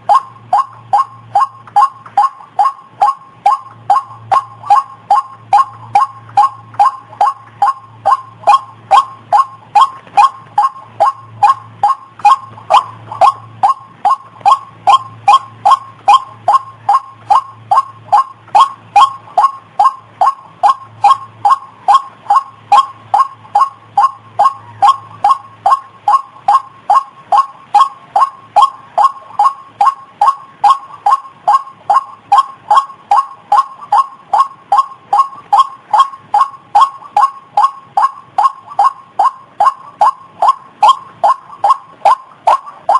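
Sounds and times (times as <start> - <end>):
waterhen calling sharp notes: 0.0 - 42.9.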